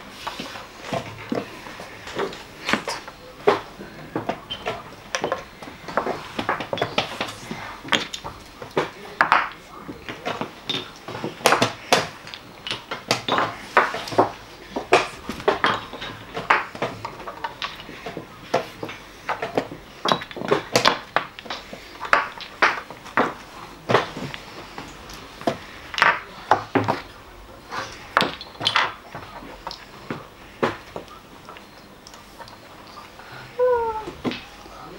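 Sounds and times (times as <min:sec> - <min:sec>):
chess pieces clacking on boards: 0:00.2 - 0:32.9.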